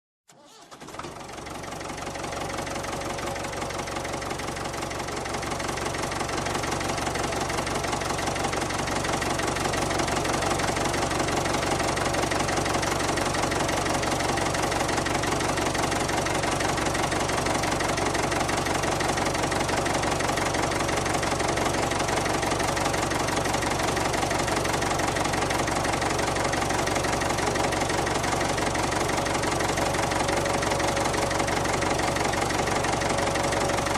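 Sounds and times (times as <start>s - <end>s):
tractor engine idling: 0.3s - 33.9s.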